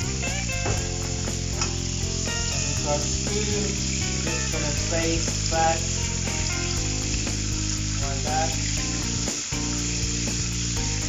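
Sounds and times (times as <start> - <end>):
background music: 0.0 - 11.0
steak sizzling in a frying pan: 0.0 - 11.0.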